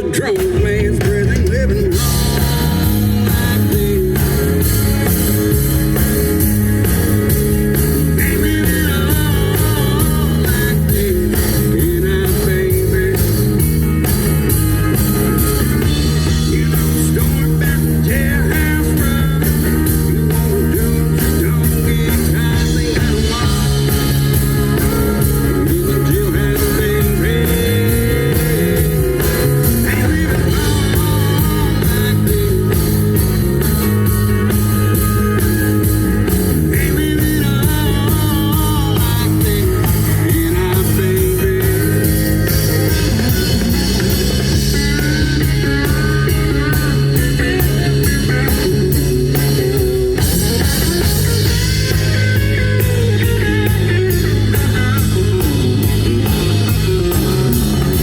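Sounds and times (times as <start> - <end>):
bass guitar: 0.0 - 58.0
electric guitar: 0.0 - 58.0
steady drum beat: 0.0 - 58.0.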